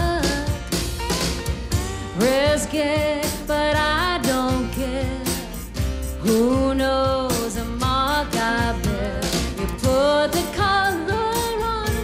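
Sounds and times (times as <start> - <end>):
woman singing lead: 0.0 - 1.0, 1.7 - 12.0
live band accompaniment: 0.0 - 12.0.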